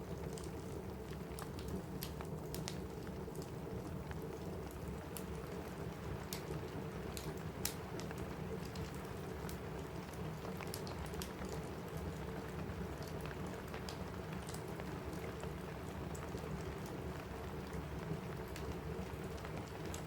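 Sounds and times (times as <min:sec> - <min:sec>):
rain on a roof: 0:00.0 - 0:20.0
wood fire crackling: 0:00.0 - 0:20.0.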